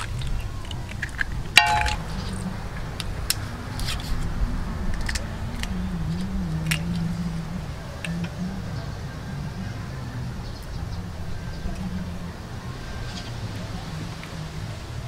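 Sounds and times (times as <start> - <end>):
low wavering hum: 0.0 - 15.0.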